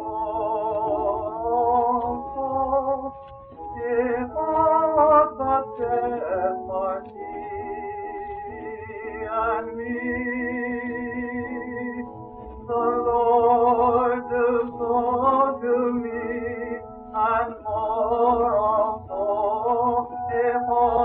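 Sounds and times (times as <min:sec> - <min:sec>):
man singing with vibrato: 0:00.0 - 0:03.0, 0:03.6 - 0:12.1, 0:12.7 - 0:21.0
low recording rumble: 0:00.0 - 0:21.0
sustained accompanying chords: 0:00.0 - 0:21.0.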